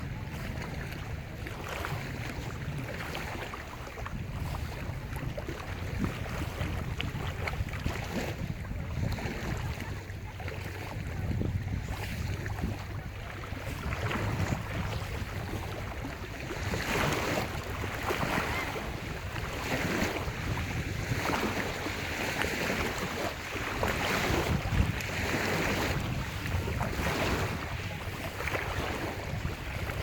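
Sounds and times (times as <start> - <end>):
lake waves washing on shore: 0.0 - 30.0
wind rumbling on microphone: 0.0 - 30.0.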